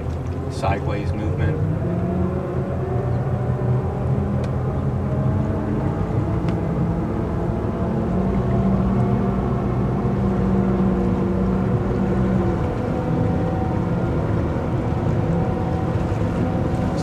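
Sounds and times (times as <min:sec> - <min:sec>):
boat engines droning at low rpm: 0:00.0 - 0:17.0.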